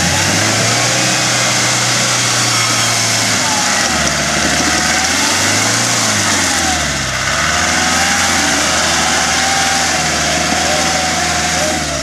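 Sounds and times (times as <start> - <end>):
engine working under load: 0.0 - 12.0.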